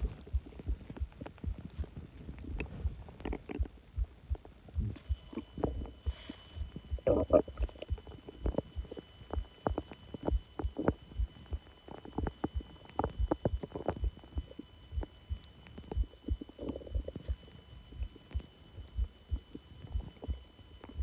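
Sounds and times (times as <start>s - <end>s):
stomach growling and gurgling: 0.0s - 21.0s.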